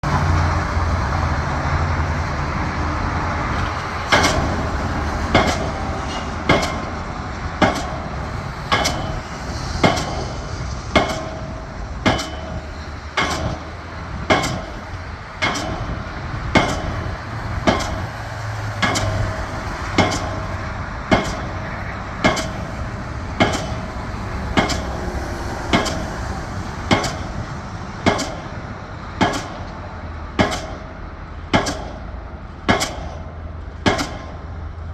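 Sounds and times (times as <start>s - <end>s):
heavy machinery drone: 0.0s - 34.9s
pile hammer metallic blows: 3.4s - 34.7s.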